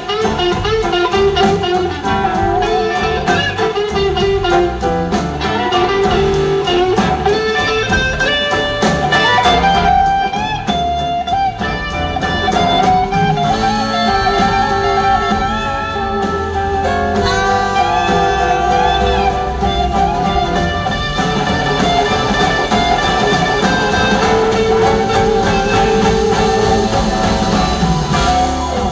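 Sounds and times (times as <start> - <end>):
drums: 0.0 - 28.9
rhythm guitars: 0.0 - 28.9
electric guitar solo: 5.4 - 28.9.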